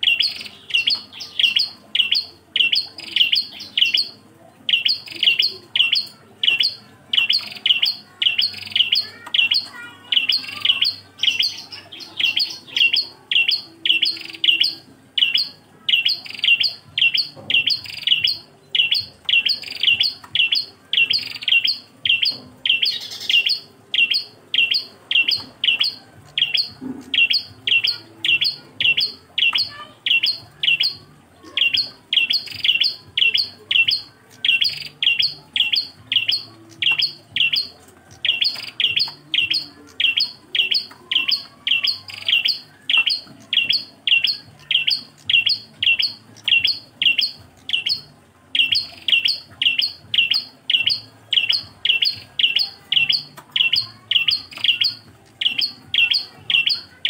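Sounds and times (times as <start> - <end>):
bird singing high notes: 0.0 - 56.8.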